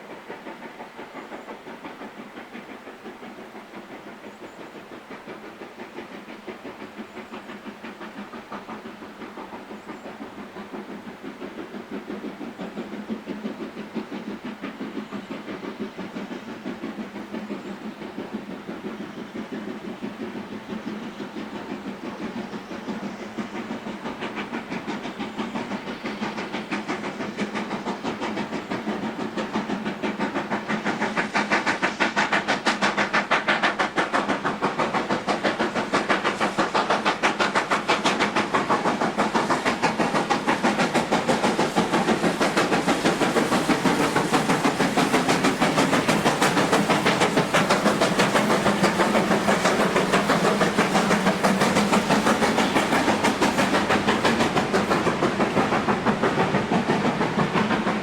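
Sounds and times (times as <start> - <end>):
steam locomotive exhaust beating: 0.0 - 58.0.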